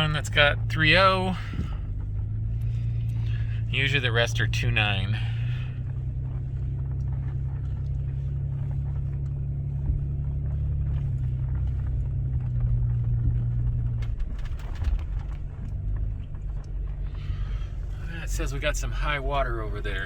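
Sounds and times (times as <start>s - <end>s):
vehicle engine and road drone: 0.0s - 20.0s.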